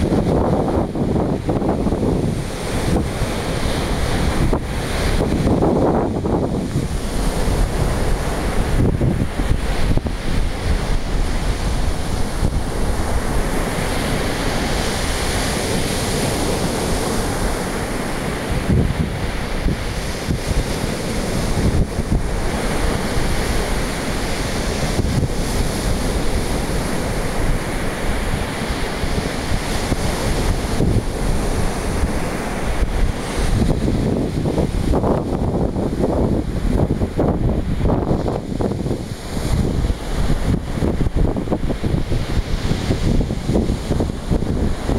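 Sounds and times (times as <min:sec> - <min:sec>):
surf washing on shore: 0:00.0 - 0:44.9
wind buffeting microphone: 0:00.0 - 0:44.9.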